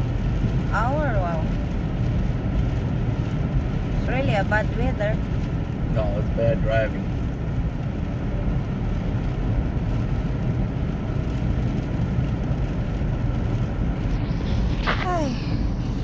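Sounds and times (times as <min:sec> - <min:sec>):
rain on car: 0:00.0 - 0:16.0
tyres on wet pavement: 0:00.0 - 0:16.0.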